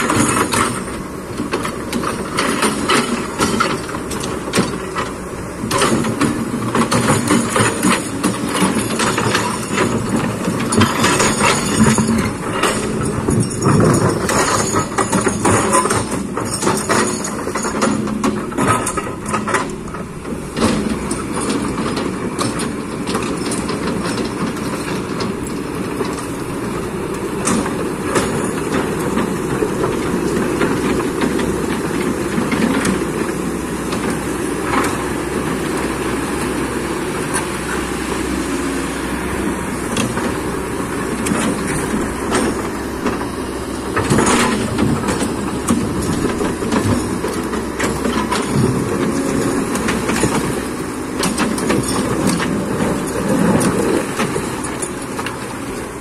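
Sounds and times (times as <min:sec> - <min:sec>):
excavator diesel engine running: 0:00.0 - 0:56.0
metal and rock clanking: 0:00.0 - 0:56.0.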